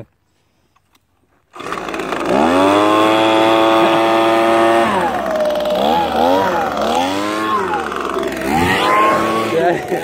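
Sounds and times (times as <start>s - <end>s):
small engine revving: 1.5s - 10.0s.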